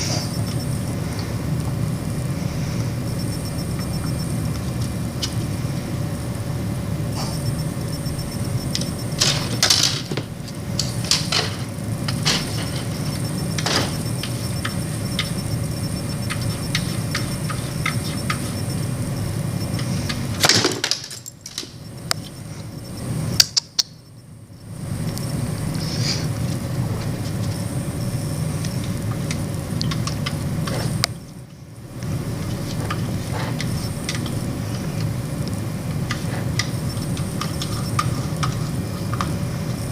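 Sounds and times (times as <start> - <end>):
humidifier hum: 0.0 - 39.9.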